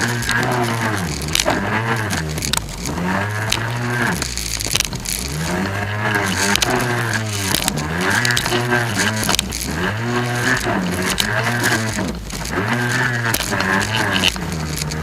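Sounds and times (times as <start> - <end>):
jet ski engine revving: 0.0 - 15.0.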